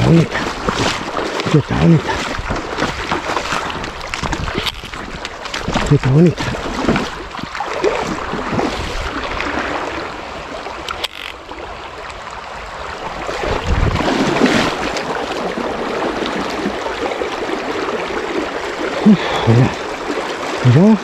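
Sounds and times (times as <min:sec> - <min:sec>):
flowing river water: 0:00.0 - 0:21.0.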